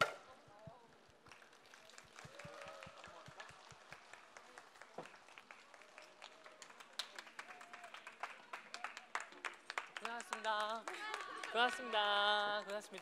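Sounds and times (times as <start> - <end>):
faint scattered applause: 1.0 - 13.0.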